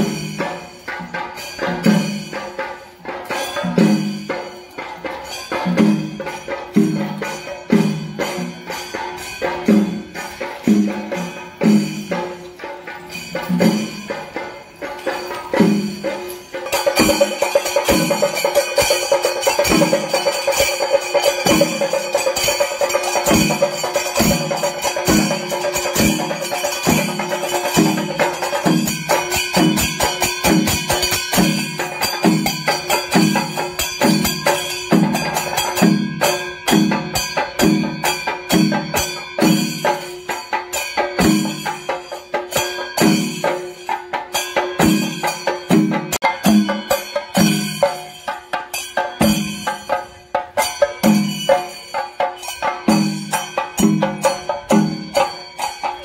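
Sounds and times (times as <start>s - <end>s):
drums beating steady pulse: 0.0s - 56.0s
hand cymbals clashing: 0.0s - 56.0s.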